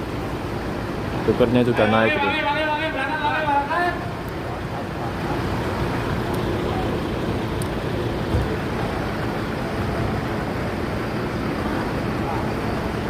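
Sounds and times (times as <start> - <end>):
bus diesel engine rumbling: 0.0 - 13.0.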